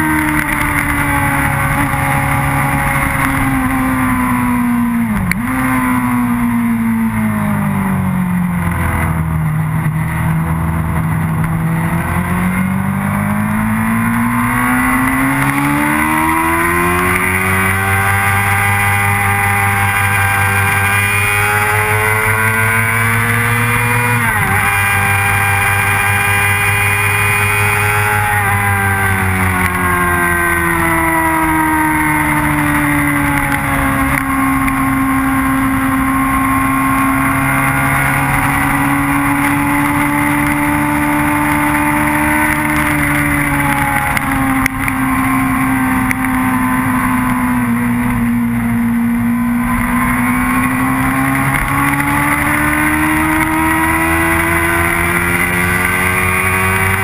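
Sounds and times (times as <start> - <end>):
motorcycle engine: 0.0 - 57.0.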